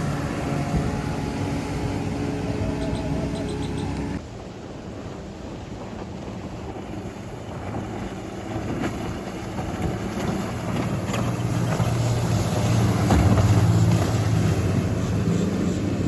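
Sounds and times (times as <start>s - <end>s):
motorboat engine running: 0.0s - 4.2s, 6.6s - 16.0s
wind on microphone: 0.0s - 16.0s.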